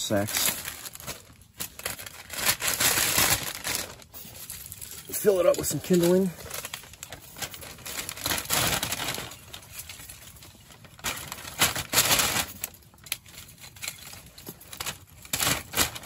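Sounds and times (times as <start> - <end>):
paper bag crinkling: 0.0 - 16.0.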